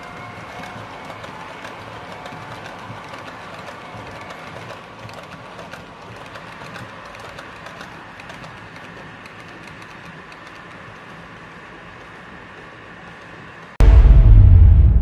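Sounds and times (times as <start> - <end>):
wheels clicking over rail joints: 0.0 - 13.8.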